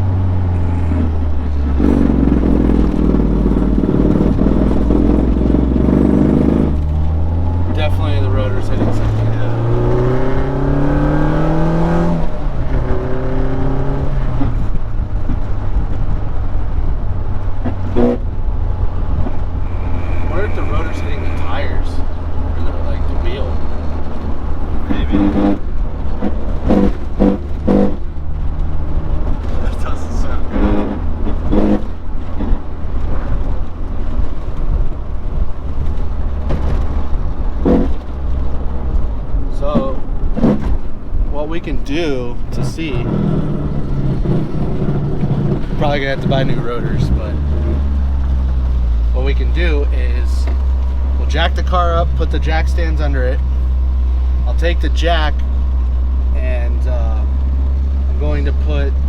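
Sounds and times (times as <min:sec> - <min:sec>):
car engine revving: 0:00.0 - 0:59.0
wheel rubbing noise: 0:00.0 - 0:59.0.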